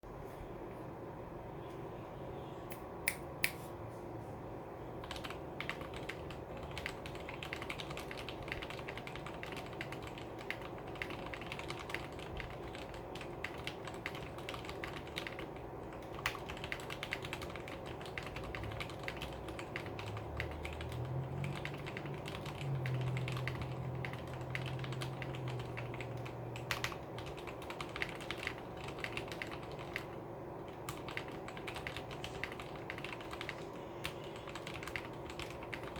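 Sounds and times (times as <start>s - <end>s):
typing on mechanical keyboard: 5.0s - 35.9s.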